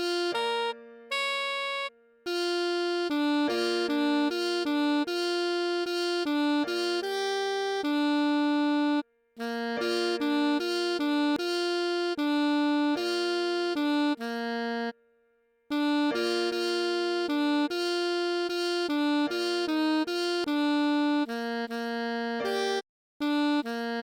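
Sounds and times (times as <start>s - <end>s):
computer-rendered saxophone notes: 0.0s - 15.0s, 15.7s - 24.0s.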